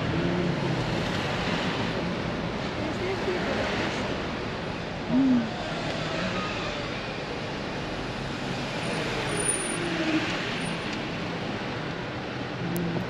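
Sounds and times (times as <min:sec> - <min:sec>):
vehicle and wind noise: 0:00.0 - 0:13.0.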